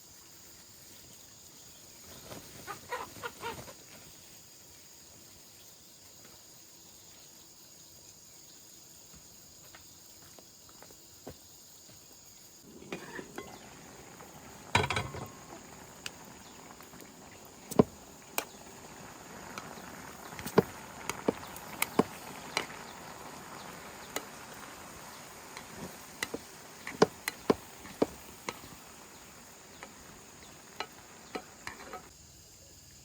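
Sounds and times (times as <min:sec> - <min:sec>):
insect chirring: 0:02.9 - 0:33.0.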